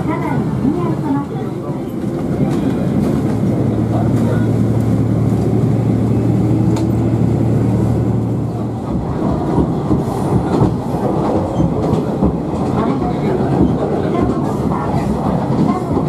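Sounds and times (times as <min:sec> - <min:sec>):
railcar engine hum: 0:00.0 - 0:16.0.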